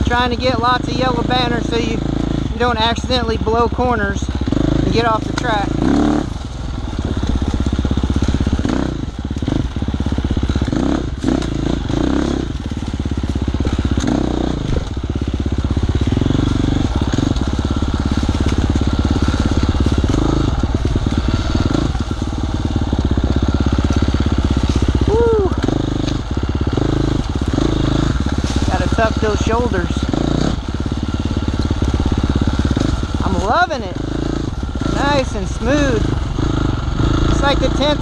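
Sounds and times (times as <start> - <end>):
dirt bike engine running: 0.0 - 38.0.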